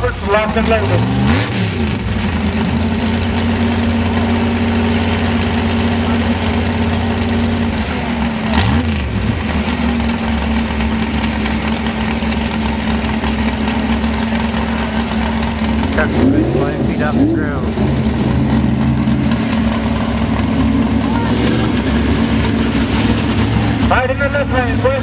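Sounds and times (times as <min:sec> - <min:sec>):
race vehicle engine running: 0:00.0 - 0:25.0.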